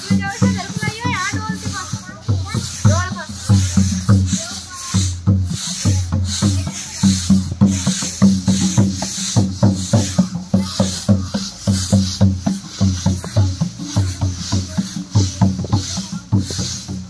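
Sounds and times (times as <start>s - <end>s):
brooms sweeping concrete: 0.0s - 17.0s
fast low drumbeat: 0.0s - 17.0s.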